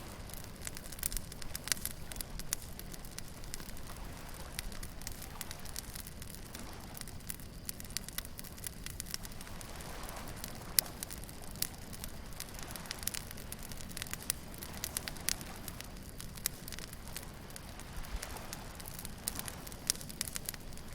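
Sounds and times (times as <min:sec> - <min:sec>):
bonfire crackling and popping: 0:00.0 - 0:20.9
surf rumbling: 0:00.0 - 0:20.9.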